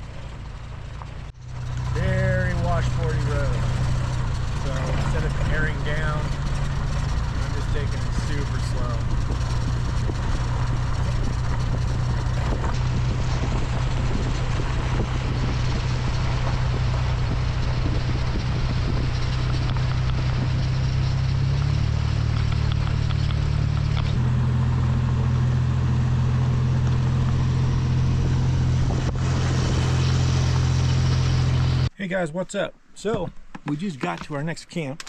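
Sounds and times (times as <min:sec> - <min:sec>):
vehicle engine: 0:00.0 - 0:32.0
rough tyre and road noise: 0:00.0 - 0:35.0.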